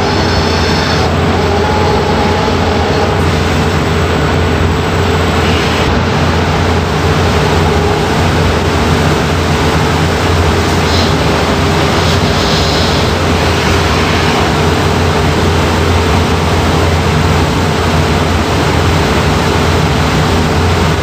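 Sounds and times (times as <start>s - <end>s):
buffing machine running: 0.0s - 21.0s
low motor hum: 0.0s - 21.0s.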